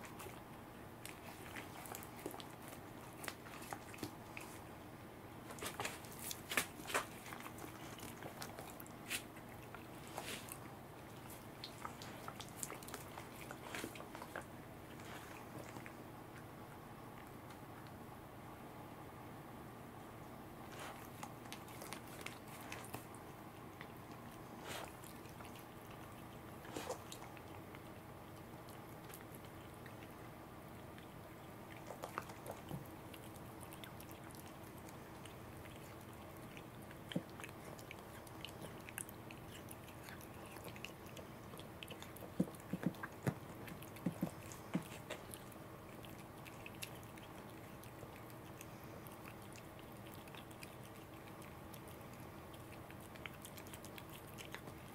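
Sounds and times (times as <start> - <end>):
cat chewing: 0.0 - 18.1, 20.6 - 54.9.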